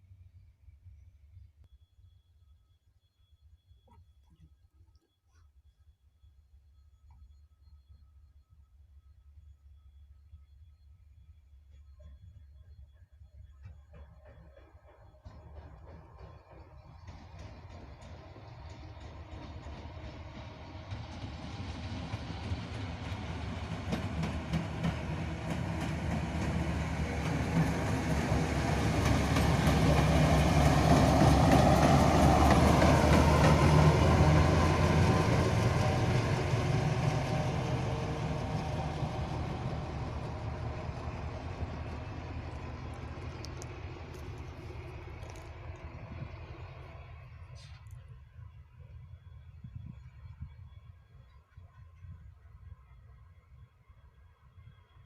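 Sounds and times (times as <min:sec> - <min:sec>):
train engine hum: 0:06.3 - 0:55.0.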